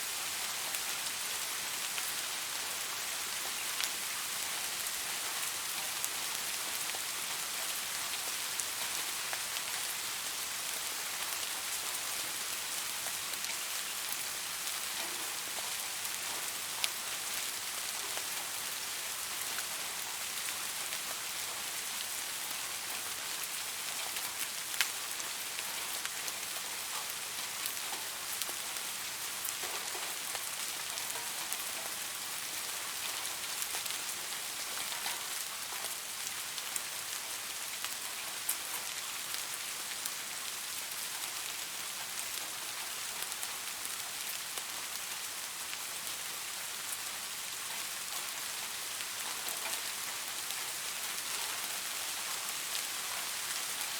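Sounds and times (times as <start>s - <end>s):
rain falling on leaves: 0.0s - 53.9s.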